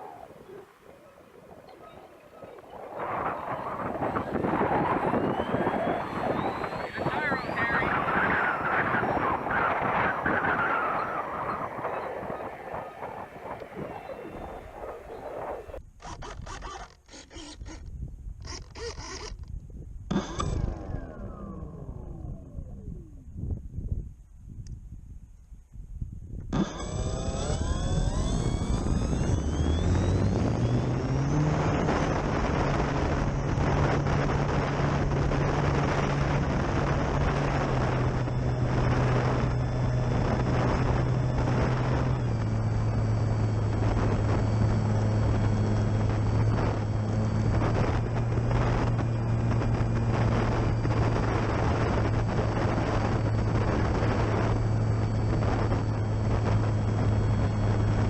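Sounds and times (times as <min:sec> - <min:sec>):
electric motor and propeller whine: 0:00.0 - 0:23.7, 0:26.4 - 0:58.0
gusty wind on microphone: 0:00.0 - 0:58.0.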